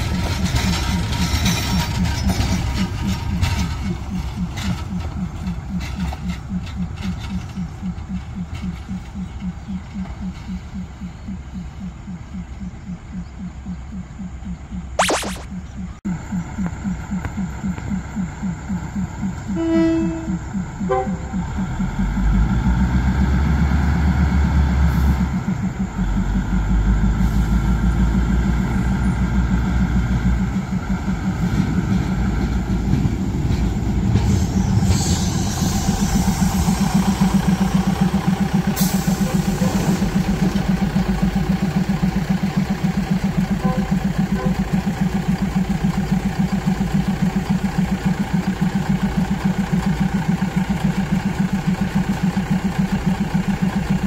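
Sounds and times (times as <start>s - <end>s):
diesel train engine idling: 0.0s - 14.7s, 16.1s - 54.0s.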